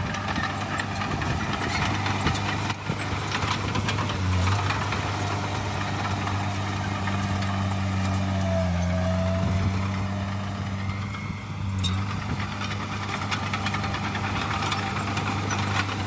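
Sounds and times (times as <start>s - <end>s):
heavy diesel machinery droning: 0.0s - 16.0s.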